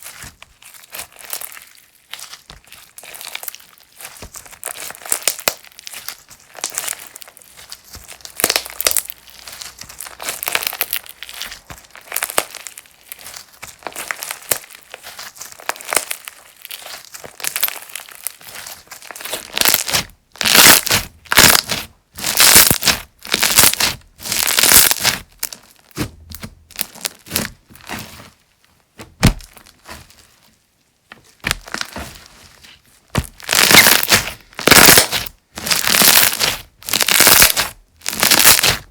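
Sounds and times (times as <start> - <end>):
slime squeezed with crunchy pops: 0.0 - 28.1, 29.2 - 30.1, 33.1 - 38.9.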